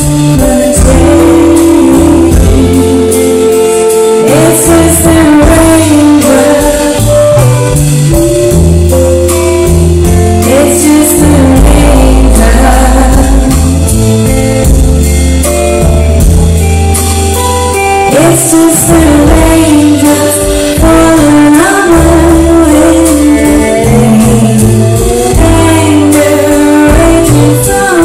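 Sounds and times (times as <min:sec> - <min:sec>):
live band music: 0:00.0 - 0:28.0.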